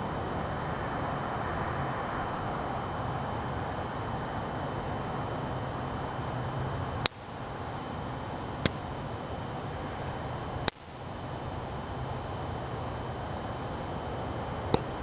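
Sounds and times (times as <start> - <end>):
faint high whine: 0.0 - 15.0
steady hiss: 0.0 - 15.0.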